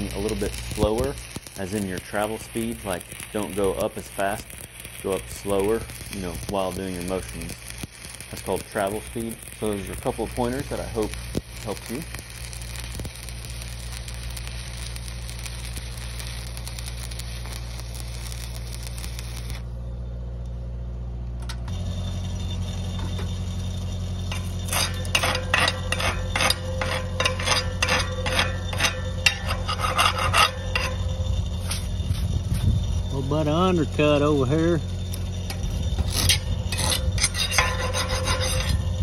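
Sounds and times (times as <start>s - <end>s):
welding arc crackling: 0.0s - 19.8s, 21.4s - 39.0s.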